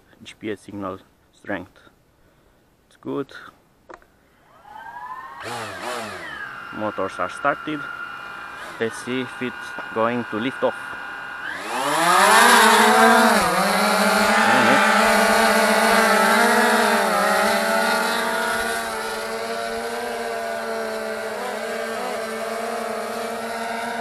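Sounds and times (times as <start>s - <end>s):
drone propellers buzzing: 4.6s - 24.0s.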